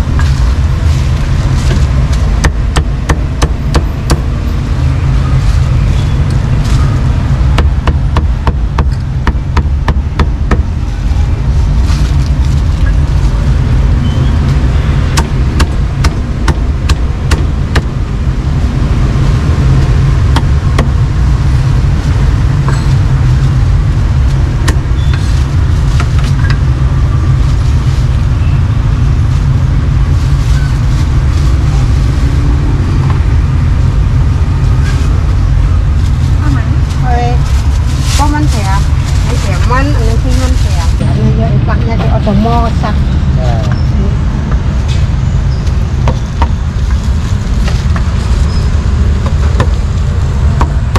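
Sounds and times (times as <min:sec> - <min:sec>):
street traffic rumble: 0:00.0 - 0:50.9.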